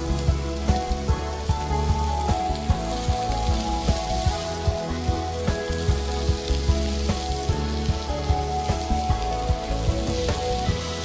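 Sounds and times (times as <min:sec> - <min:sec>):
background music: 0:00.0 - 0:11.0
patties sizzling on grill pan: 0:00.0 - 0:11.0.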